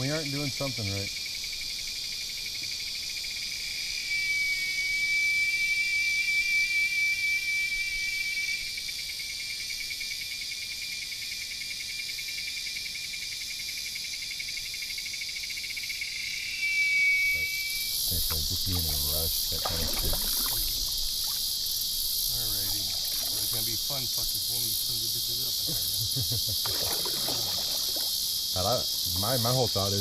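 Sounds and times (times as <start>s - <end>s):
insect chorus trilling: 0.0s - 30.0s
nearer insect trill: 0.0s - 30.0s.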